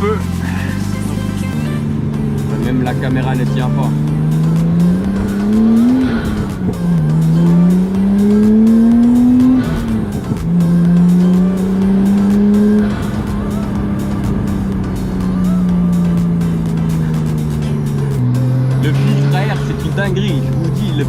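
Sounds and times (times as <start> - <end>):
air intake blowing: 0.0 - 21.0
car engine accelerating: 0.0 - 21.0.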